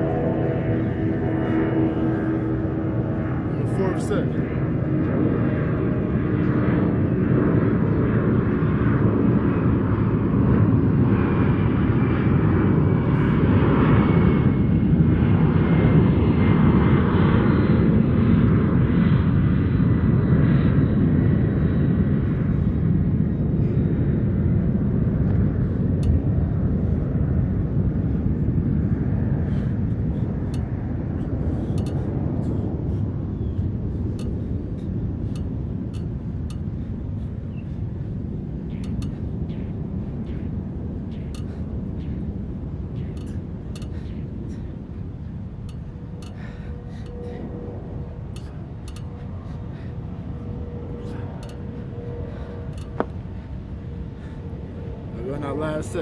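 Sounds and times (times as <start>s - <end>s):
faint steady whine: 0.0s - 56.0s
low rumbling noise: 0.0s - 56.0s.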